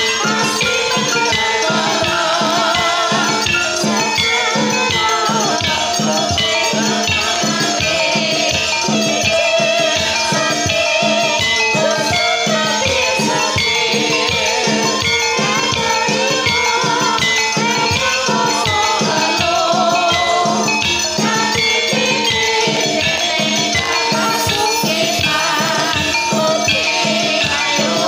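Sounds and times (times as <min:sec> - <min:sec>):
drum strokes: 0:00.0 - 0:28.0
struck metallic tones: 0:00.0 - 0:28.0
wavering melody line: 0:00.0 - 0:28.0.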